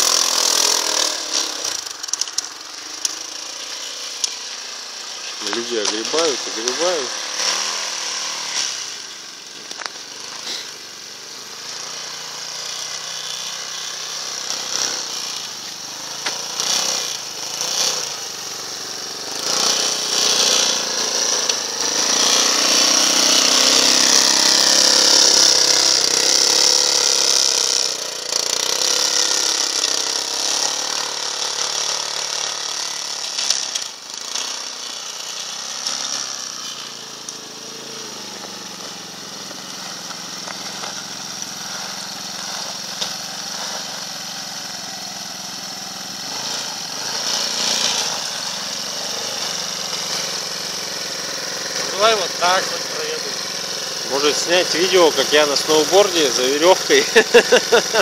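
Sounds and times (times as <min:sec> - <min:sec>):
small motorcycle engine buzzing: 0:00.0 - 0:58.0.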